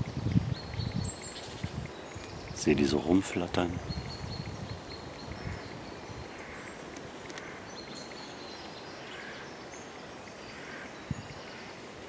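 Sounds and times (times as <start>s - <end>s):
small songbirds chirping: 0.0s - 12.0s
steady background hiss: 0.0s - 12.0s.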